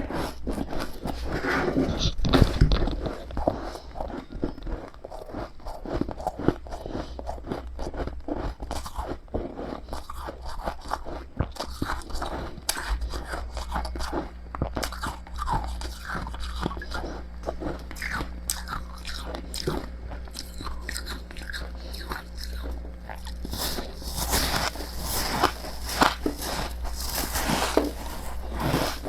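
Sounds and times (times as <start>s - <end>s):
chewing crunchy frost: 0.0s - 29.0s.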